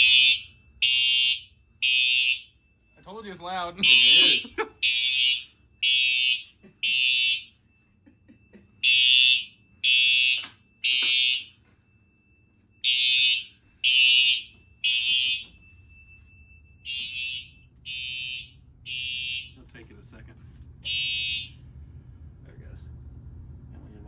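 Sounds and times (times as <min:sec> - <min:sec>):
fire alarm horn tones: 0:00.0 - 0:20.1, 0:20.8 - 0:21.7.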